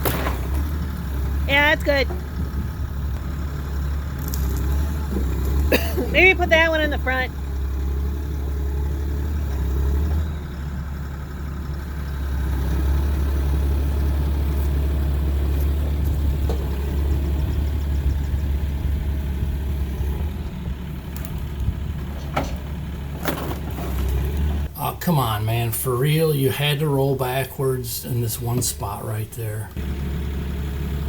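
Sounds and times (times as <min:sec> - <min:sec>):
machine engine rumbling: 0:00.0 - 0:31.0.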